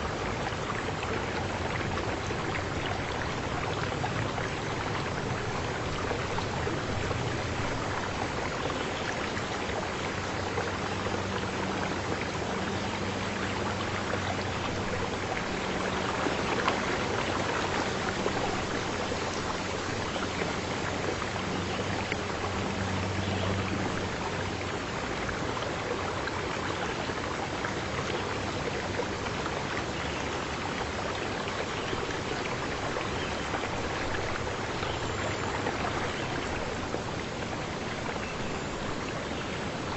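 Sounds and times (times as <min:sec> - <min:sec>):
steady water noise: 0:00.0 - 0:39.9.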